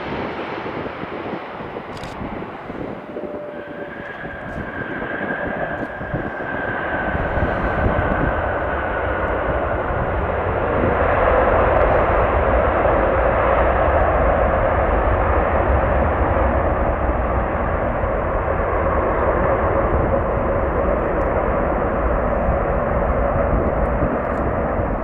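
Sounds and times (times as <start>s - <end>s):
jet airliner engines whining: 0.0s - 25.0s.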